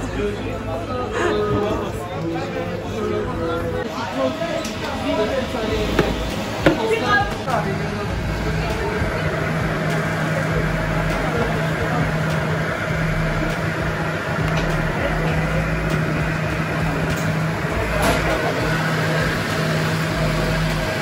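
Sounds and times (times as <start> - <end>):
people talking: 0.0 - 21.0.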